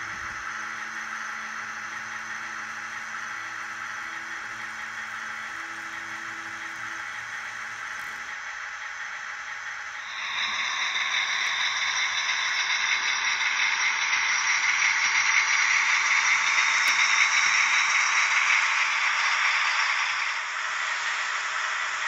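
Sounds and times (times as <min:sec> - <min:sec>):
model train wheels rattling: 0:00.0 - 0:22.0.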